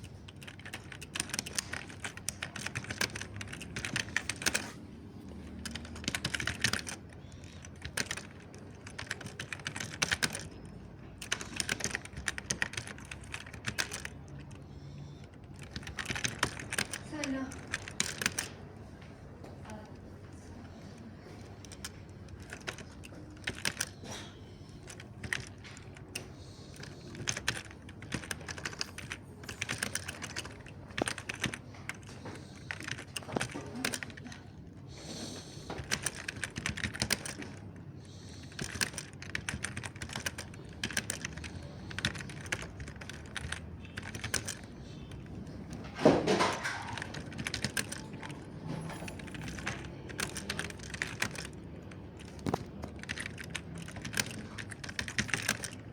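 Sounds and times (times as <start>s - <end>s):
keyboard key clicks: 0.0s - 18.6s, 20.7s - 55.9s.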